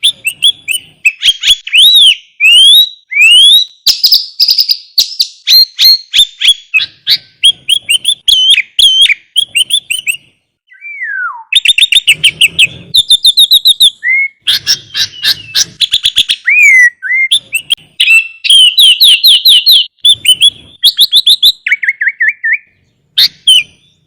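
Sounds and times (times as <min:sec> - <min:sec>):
bird singing chirps and whistles: 0:00.0 - 0:24.0.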